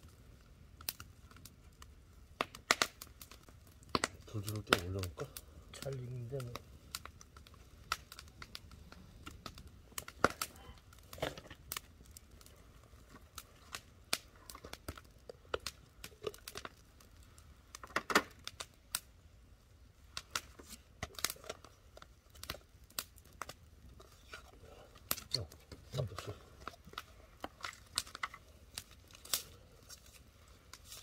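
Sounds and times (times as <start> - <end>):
fish grilling crackling and popping: 0.0 - 31.0.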